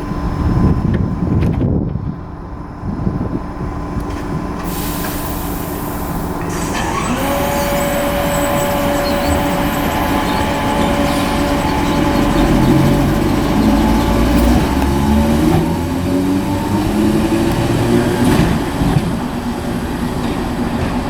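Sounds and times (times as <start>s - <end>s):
electric train low rumble: 0.0s - 21.0s
train motor whine: 4.1s - 21.0s.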